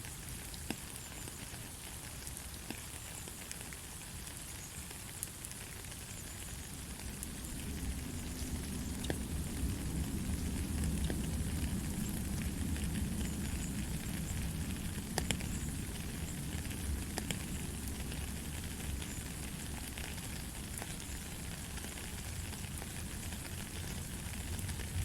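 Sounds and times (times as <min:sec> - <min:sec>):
steady rain falling: 0:00.0 - 0:25.0
sharp drip ticks: 0:00.1 - 0:24.8.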